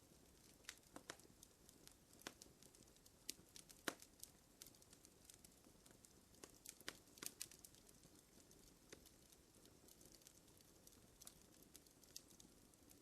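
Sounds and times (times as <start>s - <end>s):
faint fire crackling: 0.0s - 13.0s.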